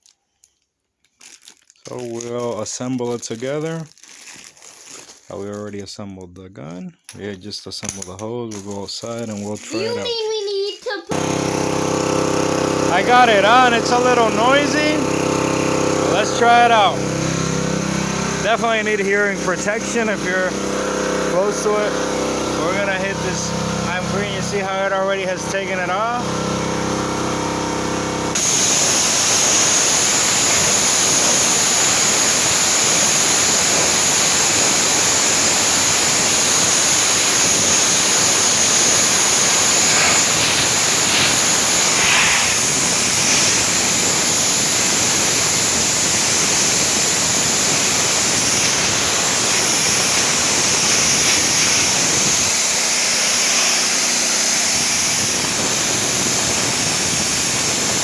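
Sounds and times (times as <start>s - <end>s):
pressure washer engine running: 11.1s - 58.0s
pressure washer spray hissing: 11.1s - 58.0s.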